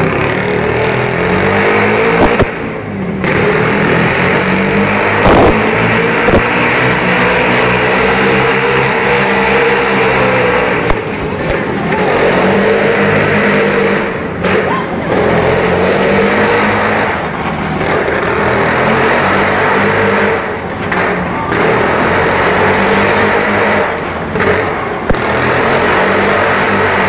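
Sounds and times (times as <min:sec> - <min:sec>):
motorcycle engine running loud: 0:00.0 - 0:27.0.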